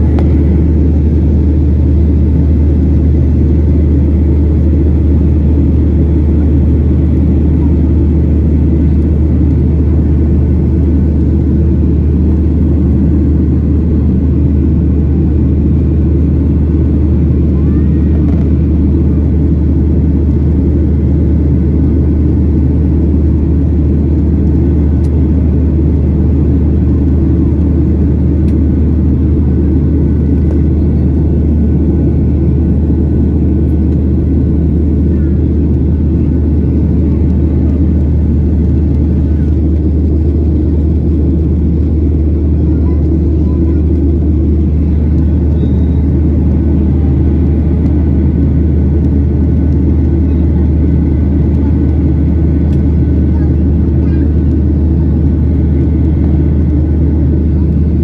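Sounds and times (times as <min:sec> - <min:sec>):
airflow over fuselage: 0:00.0 - 0:58.0
jet engines rumbling: 0:00.0 - 0:58.0.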